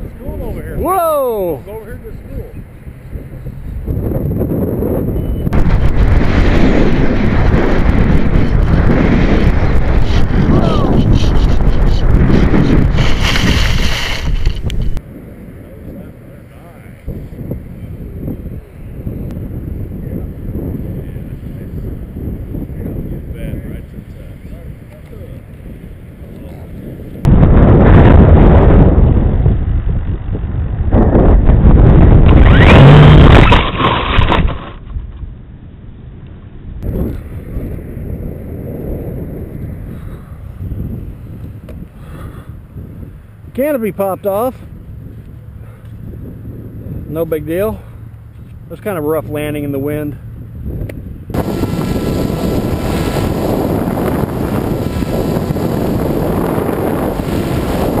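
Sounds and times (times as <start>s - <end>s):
wind buffeting microphone: 0.0s - 35.4s, 36.7s - 58.0s.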